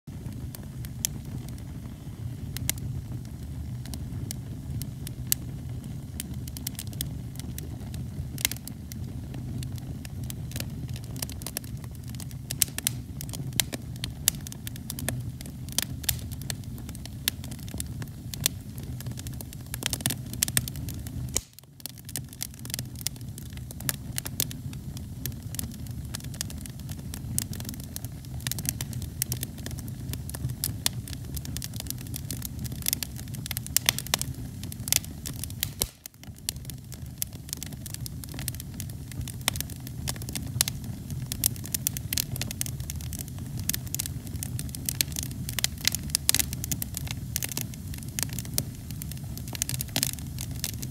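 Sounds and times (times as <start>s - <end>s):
fire crackling and popping: 0.1s - 50.9s
low rumble of flame: 0.1s - 50.9s.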